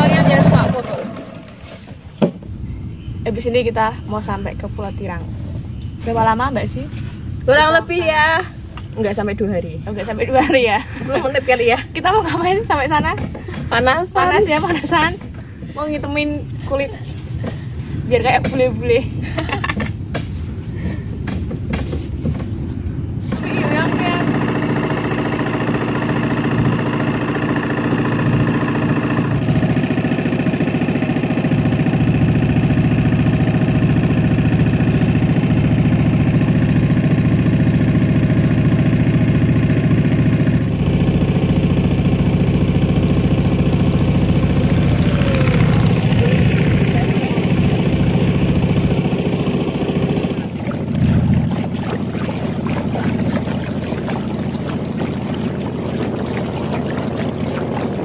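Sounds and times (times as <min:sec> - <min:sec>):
motor boat engine running: 0:00.0 - 0:58.0.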